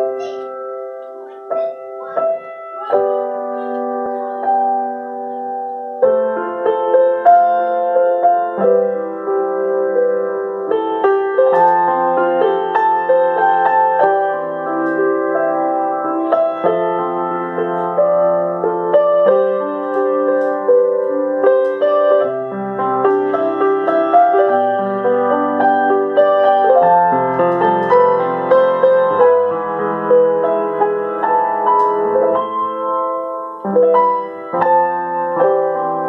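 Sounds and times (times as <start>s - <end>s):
solo grand piano: 0.0s - 36.0s.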